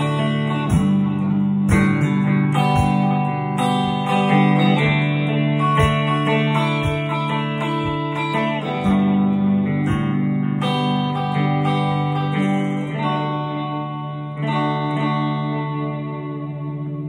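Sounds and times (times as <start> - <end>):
clean electric guitar chords: 0.0 - 17.0.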